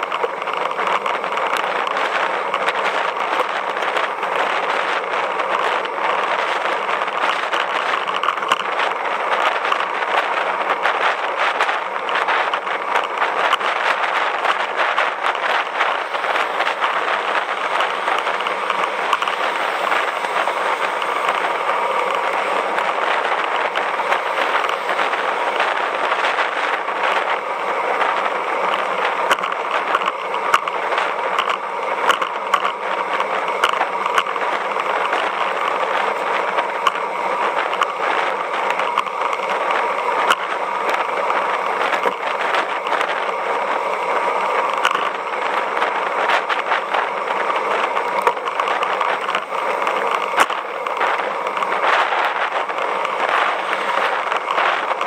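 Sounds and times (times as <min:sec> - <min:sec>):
bicycle tyre and wind noise: 0:00.0 - 0:55.0
small clicks and rattles: 0:00.0 - 0:55.0.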